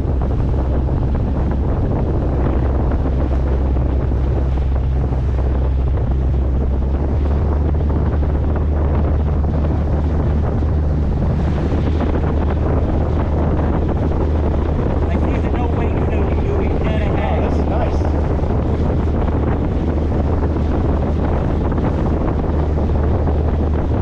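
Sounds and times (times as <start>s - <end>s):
motorboat engine drone: 0.0s - 24.0s
water rushing along hull: 0.0s - 24.0s
wind buffeting microphone: 0.0s - 24.0s.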